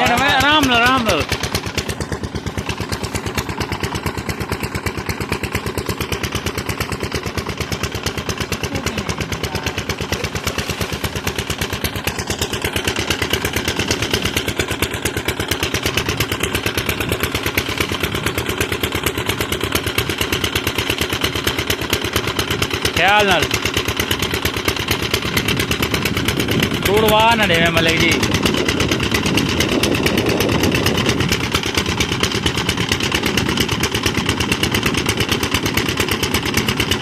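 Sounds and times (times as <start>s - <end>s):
small engine idling: 0.0s - 37.0s.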